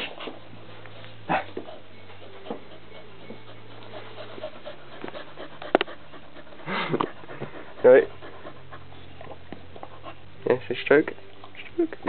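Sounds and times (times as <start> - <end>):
dog panting softly: 0.0 - 10.4.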